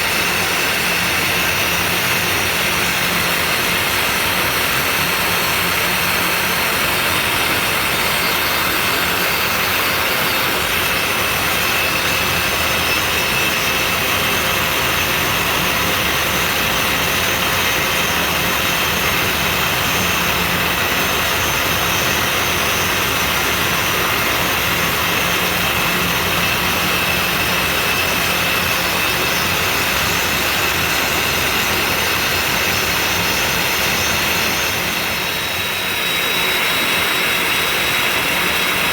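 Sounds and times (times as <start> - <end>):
dust extraction vacuum running: 0.0 - 38.9.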